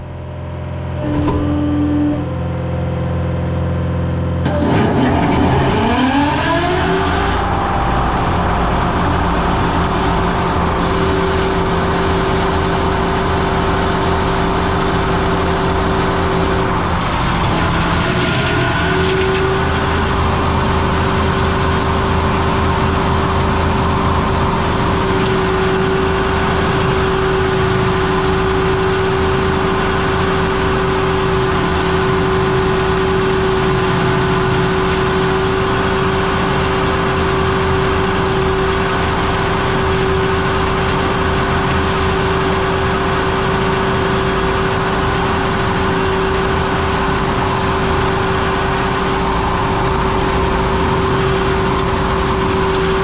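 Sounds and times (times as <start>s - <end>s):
constant hydraulic whine: 0.0s - 53.0s
diesel engine running: 0.0s - 53.0s.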